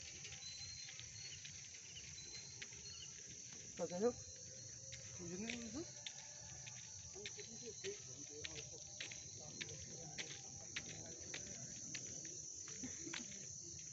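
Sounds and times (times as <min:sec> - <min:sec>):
crickets trilling: 0:00.0 - 0:13.9.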